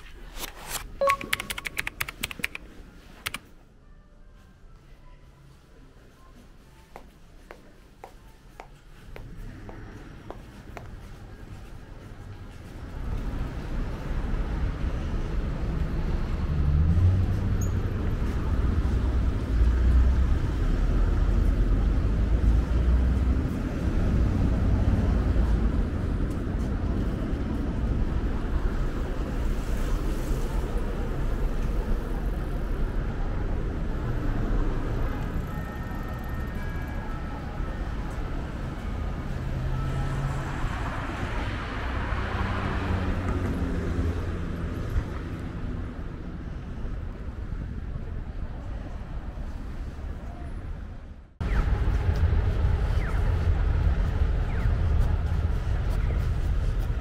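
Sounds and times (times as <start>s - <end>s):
traffic rumble: 0.0s - 57.0s.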